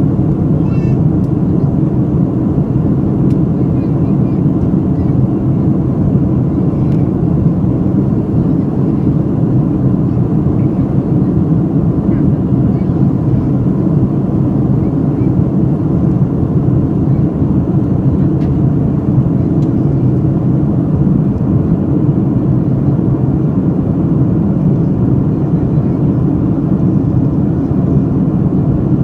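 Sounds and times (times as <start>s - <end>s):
airliner engines droning: 0.0s - 29.0s.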